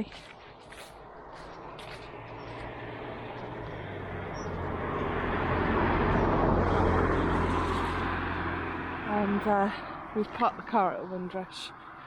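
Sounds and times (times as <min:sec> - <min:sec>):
vehicle approaching: 0:00.0 - 0:12.0.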